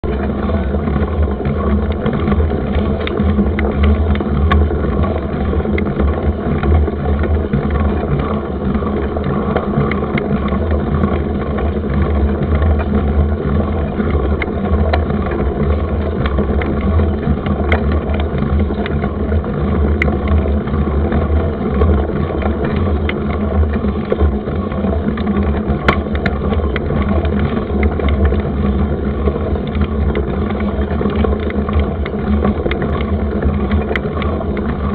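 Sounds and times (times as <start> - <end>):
bike clicks and rattles: 0.0 - 34.9.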